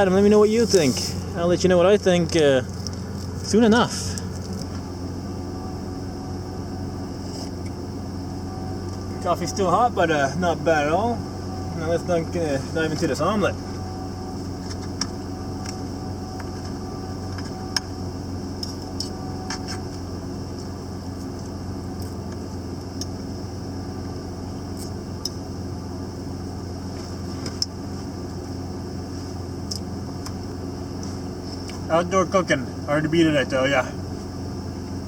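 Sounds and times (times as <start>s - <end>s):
pickup truck idling: 0.0s - 35.0s.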